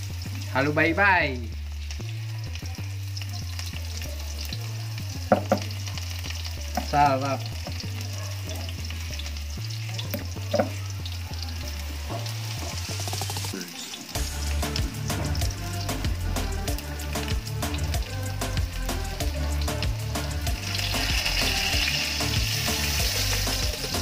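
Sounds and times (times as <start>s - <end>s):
garlic sizzling in hot oil: 0.0s - 24.0s.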